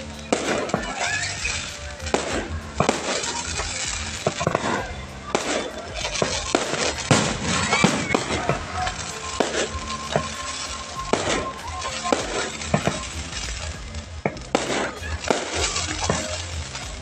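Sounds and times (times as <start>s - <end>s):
background music: 0.0s - 17.0s
crowd voices: 0.0s - 17.0s
fireworks banging: 0.0s - 17.0s.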